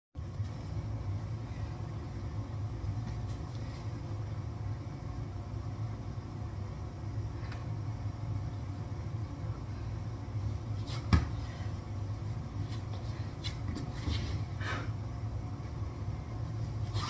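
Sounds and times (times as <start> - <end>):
steady low hum: 0.2 - 17.0.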